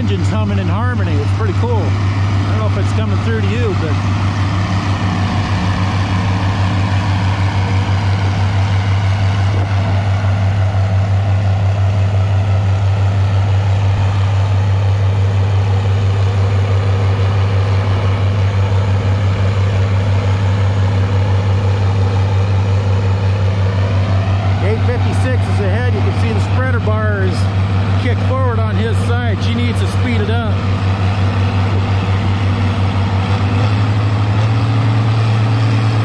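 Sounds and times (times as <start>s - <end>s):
tractor engines droning: 0.0s - 36.0s.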